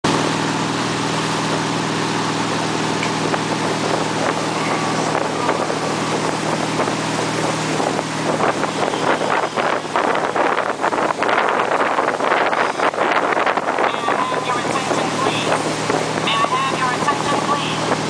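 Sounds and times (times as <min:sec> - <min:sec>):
motorboat engine running: 0:00.0 - 0:18.0
rushing water: 0:00.1 - 0:18.0
wind buffeting microphone: 0:02.4 - 0:18.0.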